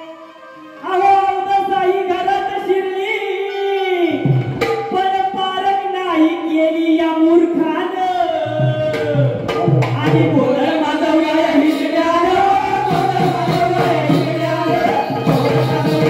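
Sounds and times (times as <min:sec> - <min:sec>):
instrumental accompaniment: 0:00.0 - 0:06.5, 0:08.6 - 0:16.0.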